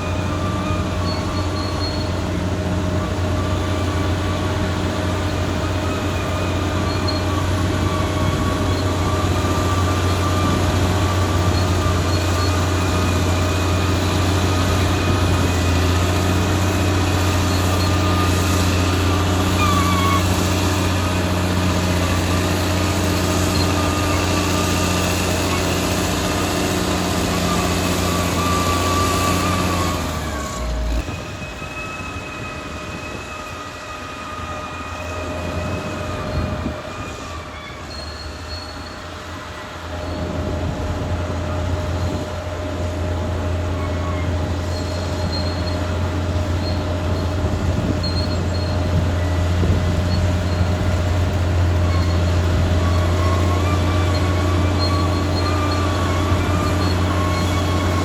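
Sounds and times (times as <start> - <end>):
bulldozer diesel engine running: 0.0 - 58.0
metallic squeal of steel tracks: 0.0 - 58.0.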